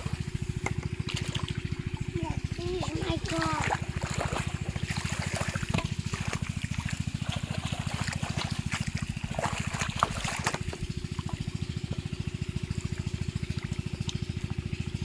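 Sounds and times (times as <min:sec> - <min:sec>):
small engine chugging: 0:00.0 - 0:15.0
water splashing and trickling: 0:00.0 - 0:15.0.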